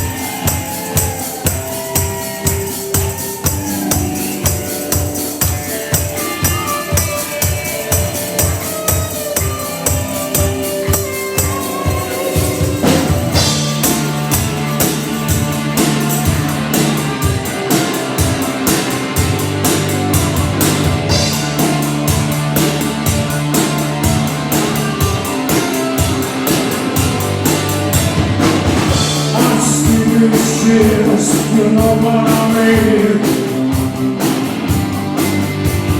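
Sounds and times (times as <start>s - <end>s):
drums steady beat: 0.0s - 35.9s
sustained bass and guitar notes: 0.0s - 35.9s.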